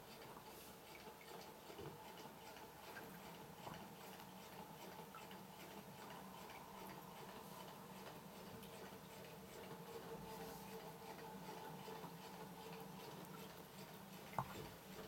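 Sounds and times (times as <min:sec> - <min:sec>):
soft steady hum: 0:00.0 - 0:15.0.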